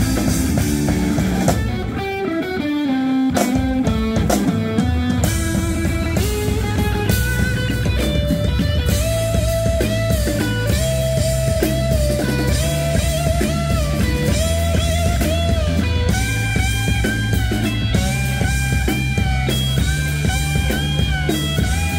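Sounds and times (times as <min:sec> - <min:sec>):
bass guitar: 0:00.0 - 0:21.9
drums: 0:00.0 - 0:21.9
electric guitar solo: 0:00.0 - 0:21.9.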